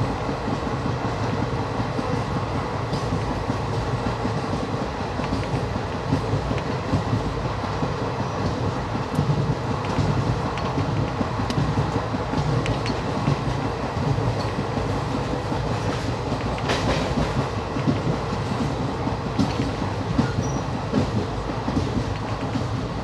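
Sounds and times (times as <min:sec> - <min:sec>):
train wheels rumbling on rails: 0:00.0 - 0:23.0
wheels clacking on rails: 0:00.0 - 0:23.0.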